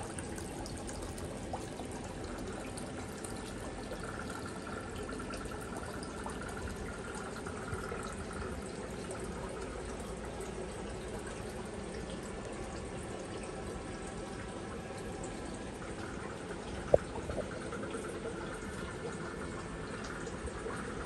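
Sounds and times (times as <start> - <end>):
water trickling: 0.0 - 21.0.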